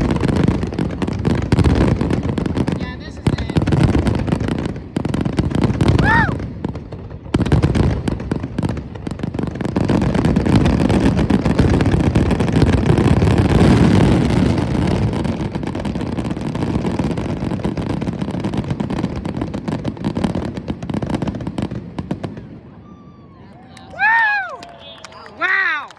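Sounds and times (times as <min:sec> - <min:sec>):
fireworks bangs and crackles: 0:00.0 - 0:23.3.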